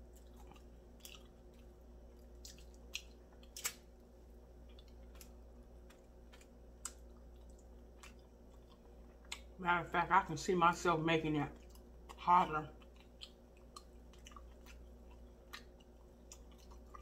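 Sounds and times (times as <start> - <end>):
chewing chicken: 0.0 - 9.6, 11.5 - 17.0.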